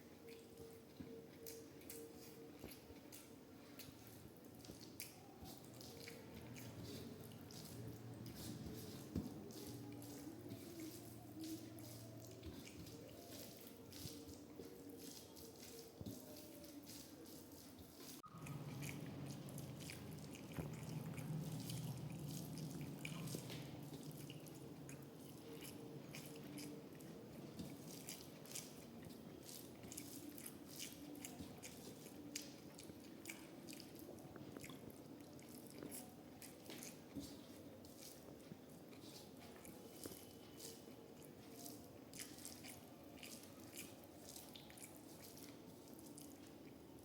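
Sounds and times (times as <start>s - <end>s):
faint low hum: 0.0s - 47.0s
person chewing with wet smacks: 0.0s - 47.0s.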